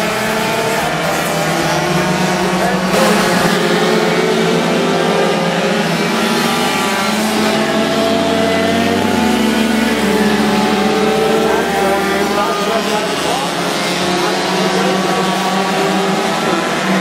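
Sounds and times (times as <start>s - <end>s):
two-stroke moped engines racing: 0.0s - 17.0s.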